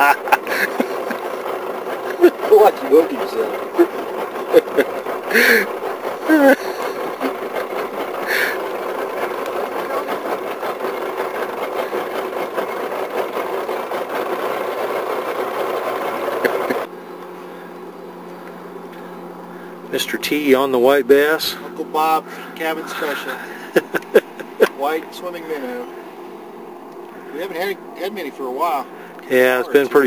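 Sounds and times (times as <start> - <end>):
boat motor humming: 0.0 - 30.0.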